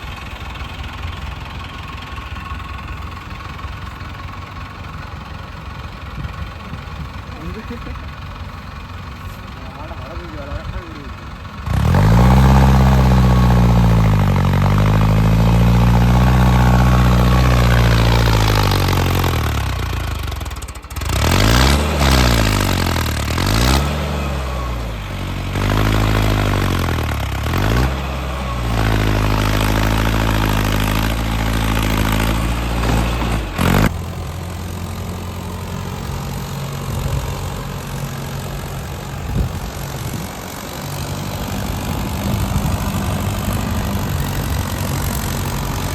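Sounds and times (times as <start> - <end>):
diesel tractor engine revving: 0.0 - 45.9.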